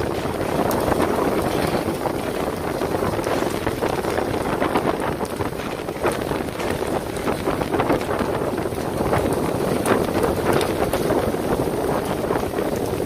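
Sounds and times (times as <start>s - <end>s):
fishing boat engine running: 0.0s - 13.0s
wind buffeting microphone: 0.0s - 13.0s.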